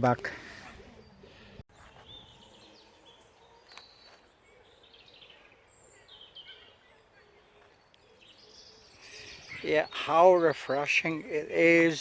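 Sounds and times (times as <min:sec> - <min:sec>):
faint bird chirps: 0:00.6 - 0:10.8.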